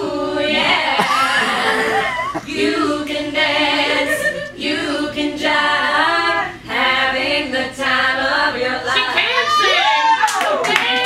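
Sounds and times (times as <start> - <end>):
women singing a cappella: 0.0 - 9.8.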